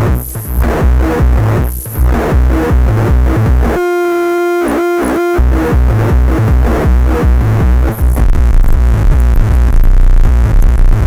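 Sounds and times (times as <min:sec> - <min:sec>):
distorted electronic beat: 0:00.0 - 0:11.0
steady feedback tone: 0:00.0 - 0:11.0.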